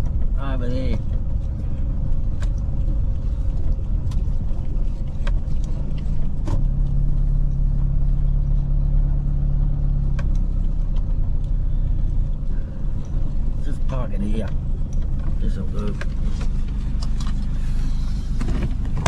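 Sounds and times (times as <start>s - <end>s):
car low rumble: 0.0s - 19.0s
engine hum: 0.0s - 19.0s.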